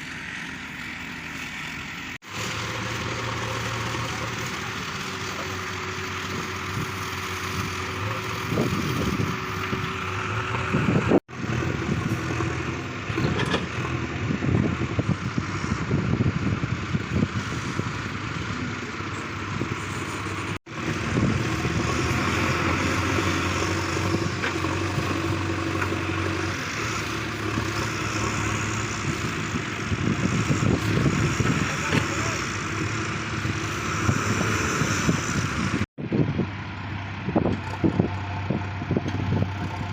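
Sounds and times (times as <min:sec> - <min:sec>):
heavy vehicle engine working: 0:00.0 - 0:39.9.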